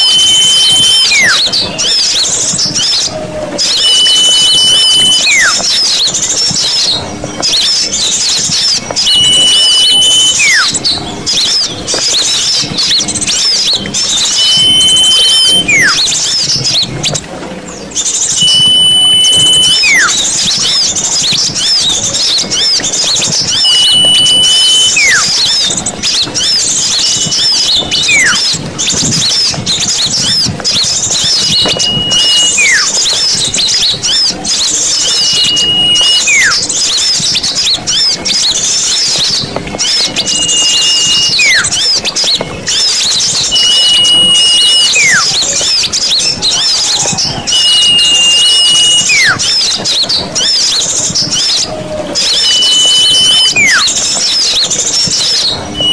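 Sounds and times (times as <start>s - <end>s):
descending whistle: 0.0s - 17.2s, 17.9s - 55.9s
songbirds chattering: 0.0s - 55.9s.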